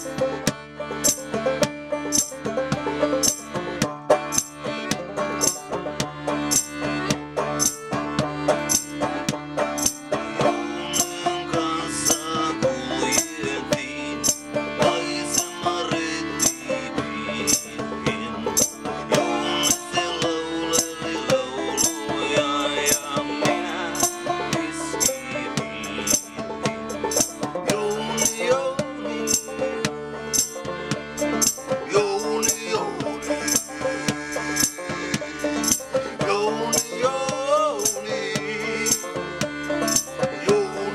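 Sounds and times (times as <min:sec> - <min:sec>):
plucked banjo chords: 0:00.0 - 0:40.9
rattling percussion beat: 0:00.0 - 0:40.9.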